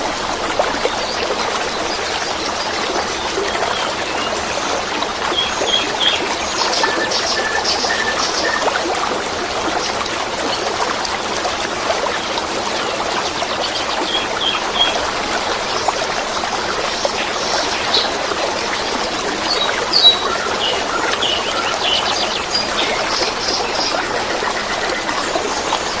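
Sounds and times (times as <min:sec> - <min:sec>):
water trickling and babbling: 0:00.0 - 0:26.0.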